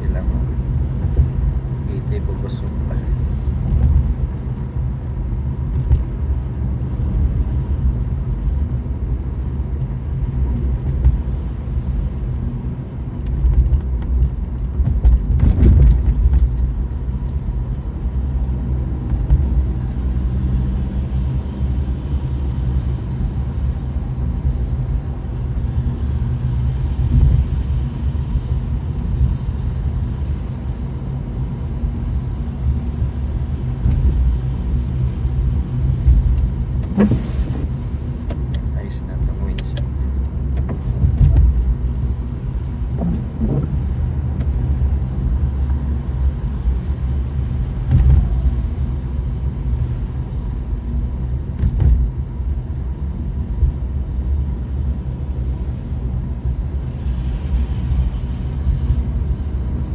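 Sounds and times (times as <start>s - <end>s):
road and engine rumble in car: 0.0s - 59.9s.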